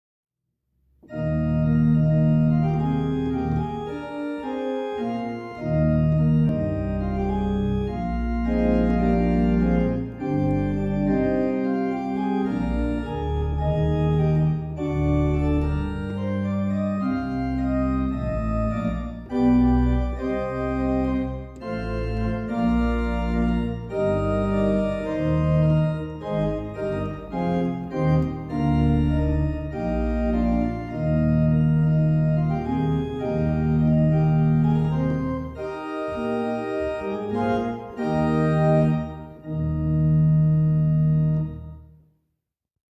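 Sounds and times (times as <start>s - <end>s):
organ playing sustained chords: 1.0s - 42.0s.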